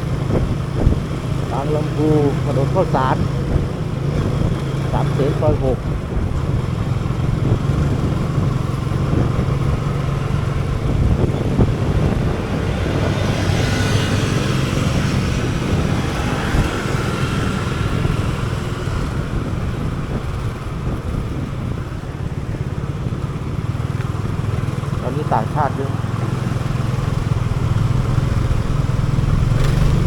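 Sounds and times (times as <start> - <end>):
city traffic: 0.0 - 30.0
motorcycle engine running: 0.0 - 30.0
road and wind noise: 0.0 - 30.0.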